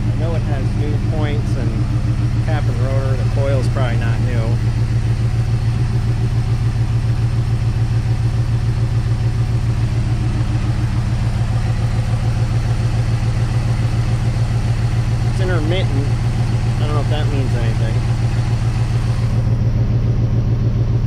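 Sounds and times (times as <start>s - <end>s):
car engine idling unevenly: 0.0s - 21.0s.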